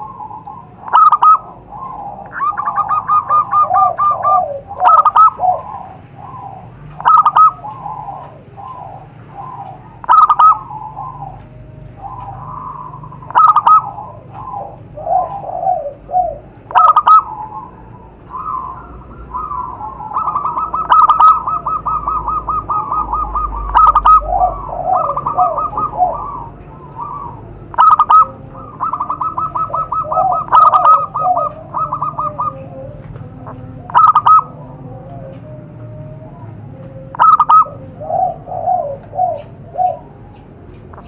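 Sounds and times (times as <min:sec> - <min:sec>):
doves cooing: 0:00.0 - 0:41.0.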